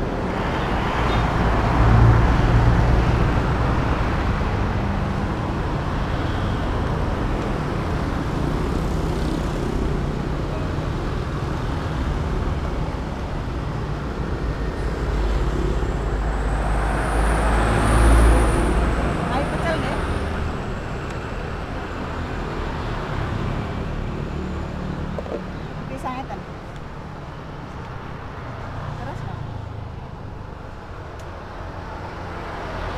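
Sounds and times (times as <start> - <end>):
road traffic rumbling: 0.0 - 32.9.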